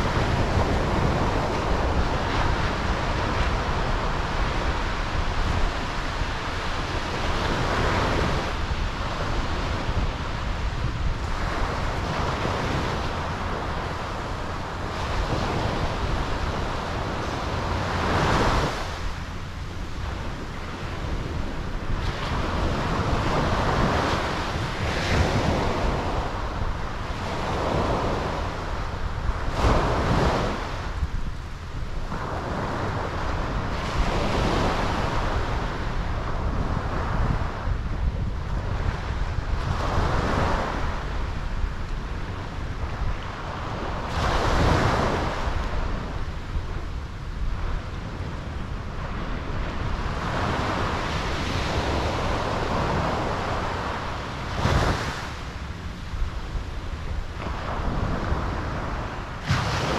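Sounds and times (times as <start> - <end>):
ocean surf breaking: 0.0 - 59.9
wind on microphone: 0.0 - 59.9.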